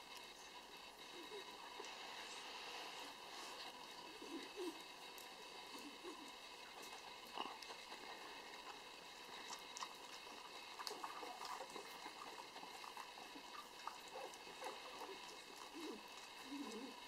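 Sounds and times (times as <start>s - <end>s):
dogs lapping food: 3.1s - 17.0s.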